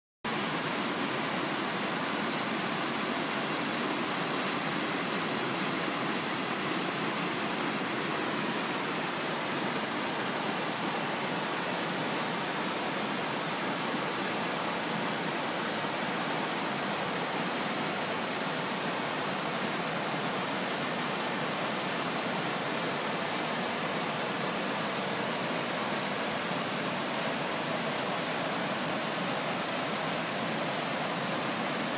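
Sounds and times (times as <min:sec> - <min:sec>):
waterfall rushing: 0:00.3 - 0:31.9.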